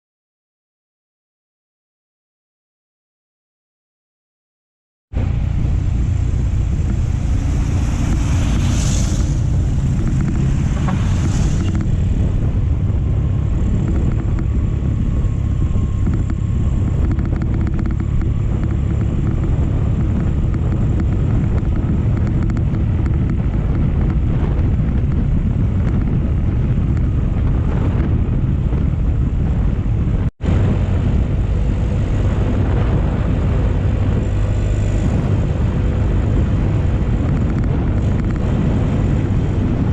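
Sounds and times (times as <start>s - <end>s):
motorcycle engine: 5.1s - 39.9s
wind noise on microphone: 5.1s - 39.9s.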